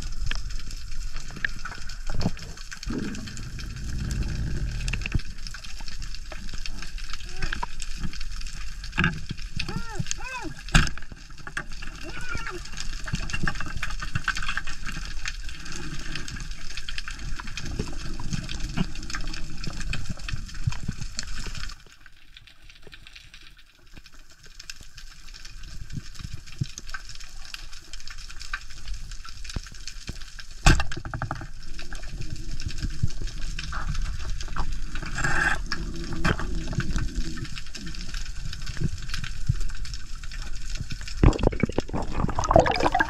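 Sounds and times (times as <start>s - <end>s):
fine crackling clicks: 0.0s - 43.0s
underwater water wash: 0.0s - 43.0s.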